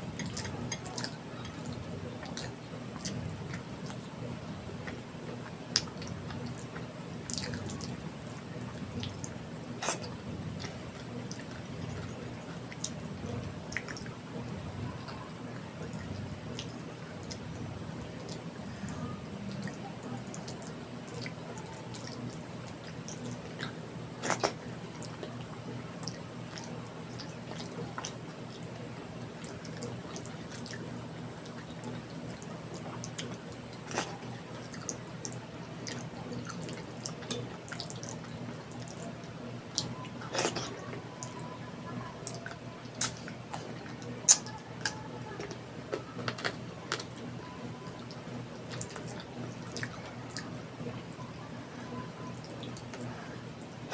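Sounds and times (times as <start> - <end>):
wet eating sounds: 0.0 - 14.2, 15.0 - 41.4, 42.2 - 50.6
steady low hum: 0.0 - 53.9.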